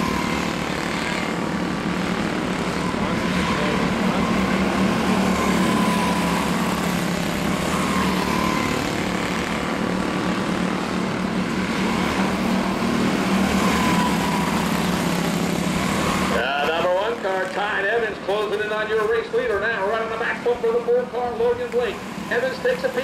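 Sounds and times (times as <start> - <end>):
race car engines buzzing: 0.0 - 23.0.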